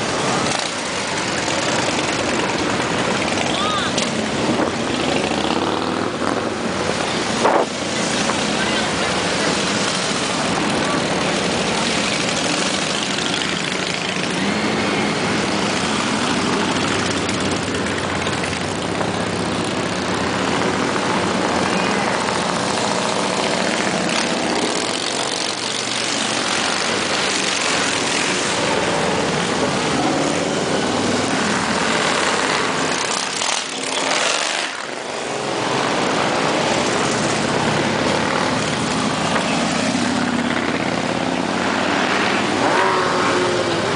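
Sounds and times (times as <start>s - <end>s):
motorcycle engines droning: 0.0s - 43.9s.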